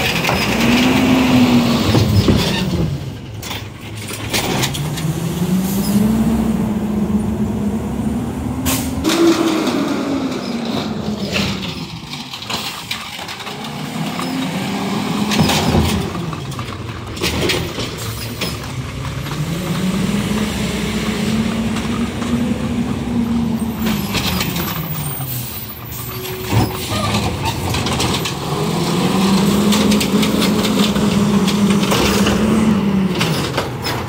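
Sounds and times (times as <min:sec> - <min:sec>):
garbage truck engine revving: 0:00.0 - 0:34.0.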